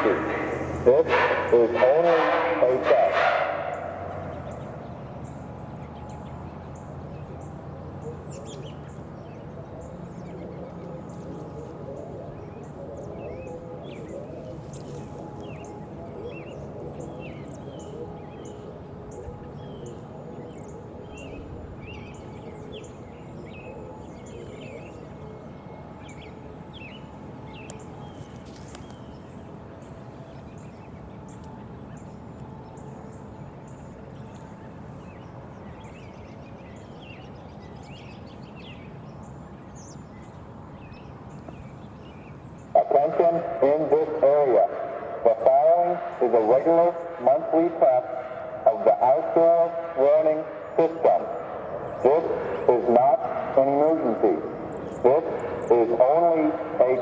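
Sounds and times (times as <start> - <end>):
steady low background noise: 0.0 - 57.0
small birds chirping: 3.7 - 44.5, 48.8 - 57.0.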